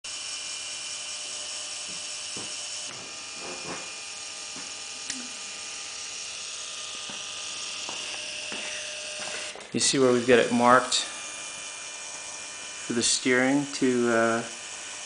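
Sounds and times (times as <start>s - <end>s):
electric motor whining: 0.1s - 15.0s.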